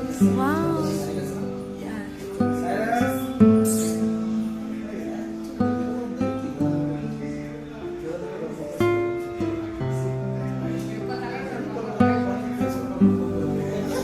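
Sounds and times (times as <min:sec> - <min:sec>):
acoustic guitar slow chords: 0:00.0 - 0:14.0.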